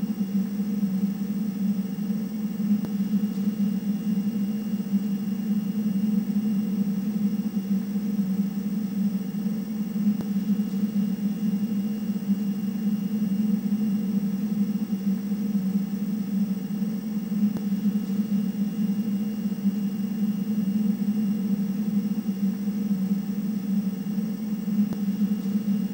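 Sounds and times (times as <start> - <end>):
faint high whine: 0.0 - 25.9
low electronic hum: 0.0 - 25.9.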